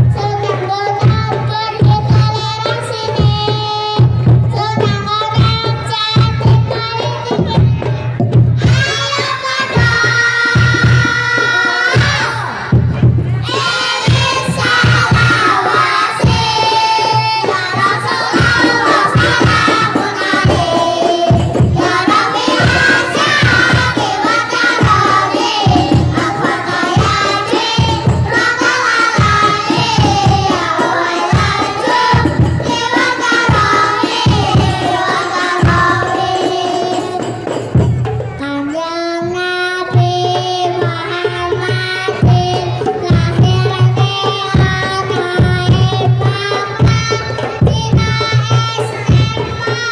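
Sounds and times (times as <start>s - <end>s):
frame drums beating: 0.0s - 38.4s, 39.9s - 49.9s
children singing into microphones: 0.0s - 49.9s.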